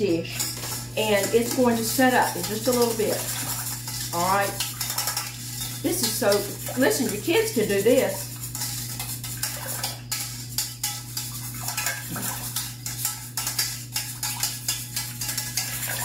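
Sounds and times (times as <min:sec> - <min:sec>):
whisk beating in metal bowl: 0:00.0 - 0:16.0.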